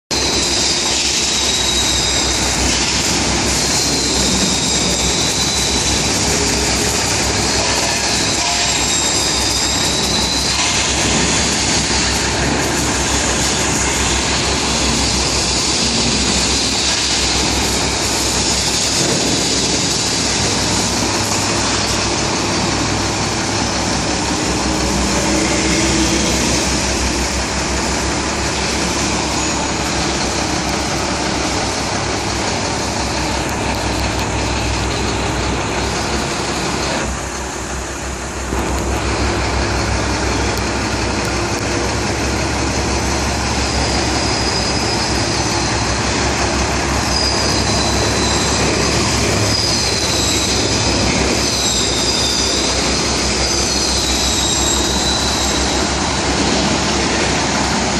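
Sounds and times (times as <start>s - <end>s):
diesel truck engine idling: 9.4s - 57.9s.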